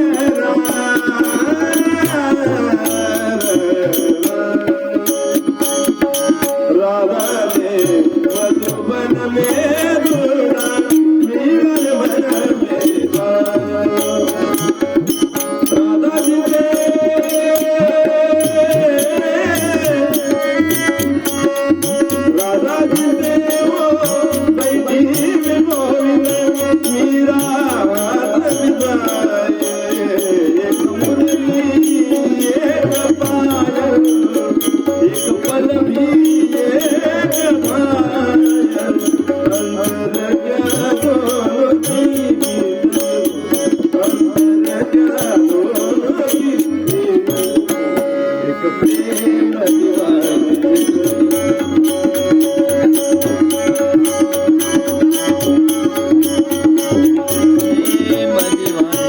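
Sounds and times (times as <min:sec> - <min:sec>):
hand drum rhythm: 0:00.0 - 0:48.1, 0:48.8 - 0:59.0
person singing: 0:00.0 - 0:59.0.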